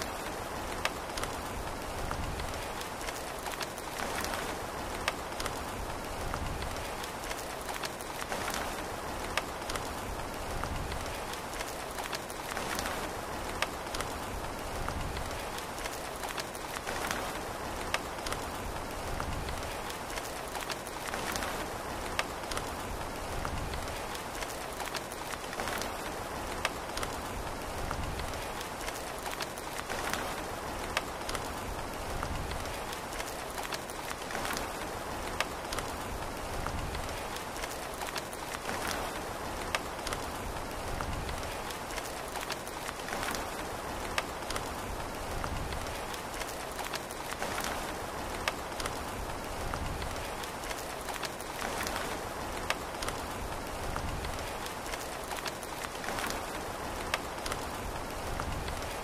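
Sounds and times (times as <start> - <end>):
sharp loud raindrops: 0.0 - 59.0
steady rain: 0.0 - 59.0.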